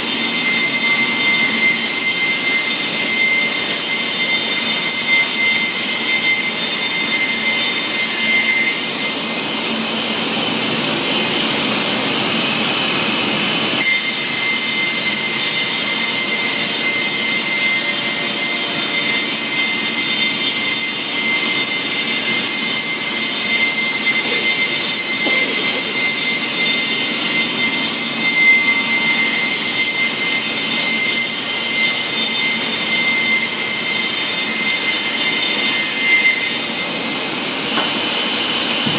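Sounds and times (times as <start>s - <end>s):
high-pitched spindle whine: 0.0s - 38.9s.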